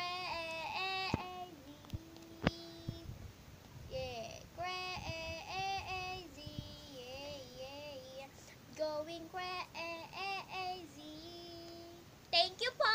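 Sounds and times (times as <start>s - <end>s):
girl singing: 0.0s - 3.1s, 3.9s - 12.9s.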